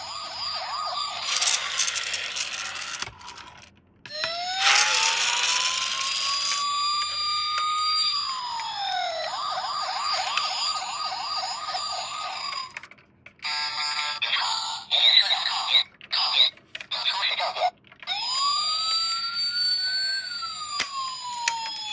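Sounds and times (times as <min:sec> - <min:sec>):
electronic toy siren: 0:00.0 - 0:12.8, 0:13.4 - 0:15.0, 0:18.0 - 0:21.9.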